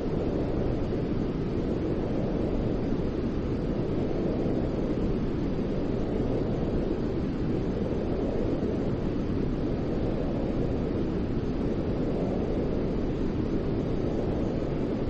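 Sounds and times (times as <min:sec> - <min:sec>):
deep white noise rush: 0:00.0 - 0:15.0.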